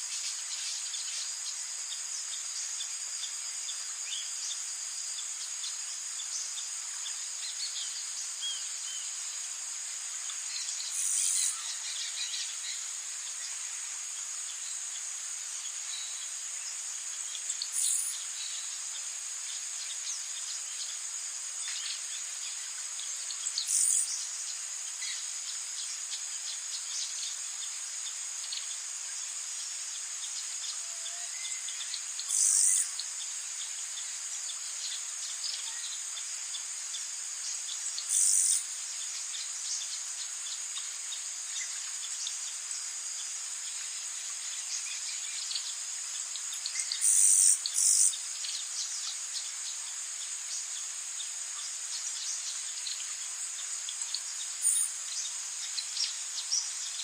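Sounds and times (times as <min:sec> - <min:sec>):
insects chorus: 0:00.0 - 0:57.0
faint chirps: 0:10.1 - 0:57.0.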